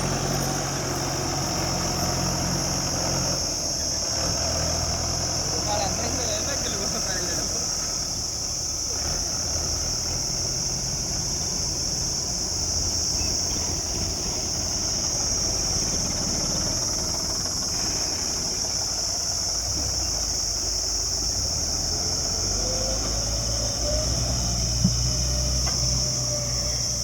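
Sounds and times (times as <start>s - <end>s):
heavy vehicle engine running: 0.0s - 27.0s
high-pitched hiss: 0.0s - 27.0s.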